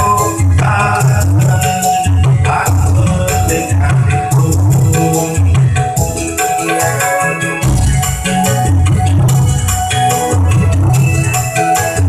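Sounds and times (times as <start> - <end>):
upbeat music with bass and percussion: 0.0 - 12.0.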